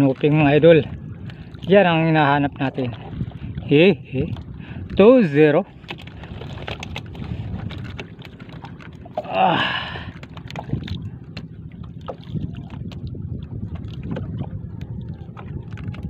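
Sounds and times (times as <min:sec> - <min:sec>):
water noise around boat: 0:00.0 - 0:16.0
wind: 0:00.0 - 0:16.0.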